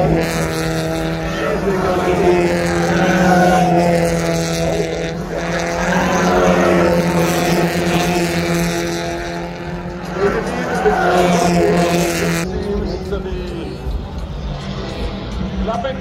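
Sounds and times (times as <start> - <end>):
race car engines passing: 0.0 - 16.0
steady low drone: 0.0 - 16.0.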